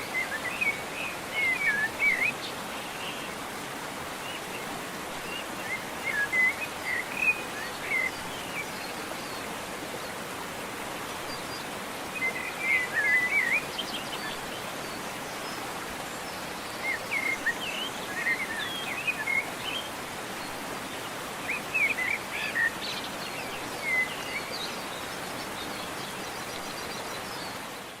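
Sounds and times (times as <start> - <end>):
songbirds chirping: 0.0 - 28.0
waterfall rushing: 0.0 - 28.0.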